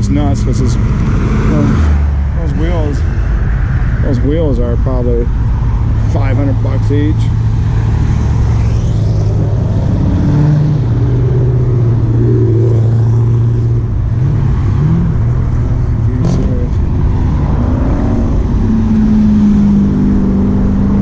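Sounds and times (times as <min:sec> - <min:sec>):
car engines humming: 0:00.0 - 0:21.0.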